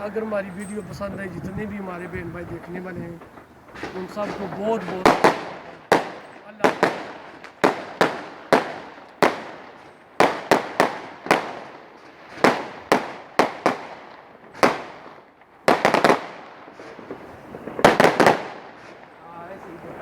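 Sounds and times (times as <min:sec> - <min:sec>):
fireworks banging: 0:00.0 - 0:20.0.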